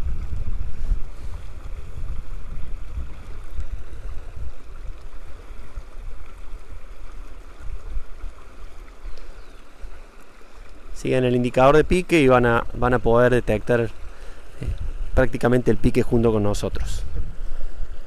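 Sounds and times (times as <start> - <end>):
wind buffeting microphone: 0.0 - 9.6, 11.7 - 18.0.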